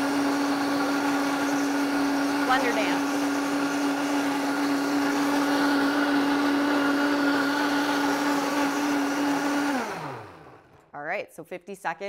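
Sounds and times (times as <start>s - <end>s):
blender motor running: 0.0s - 10.8s.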